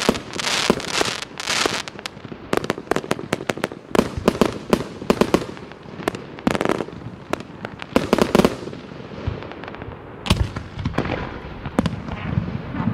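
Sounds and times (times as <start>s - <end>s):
fireworks cracks and bangs: 0.0s - 12.9s.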